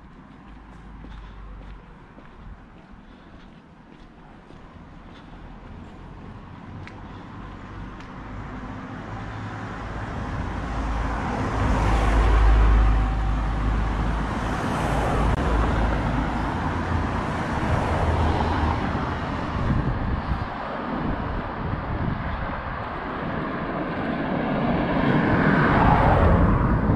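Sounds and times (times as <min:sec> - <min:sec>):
car engine and tyre noise: 0:00.0 - 0:26.9.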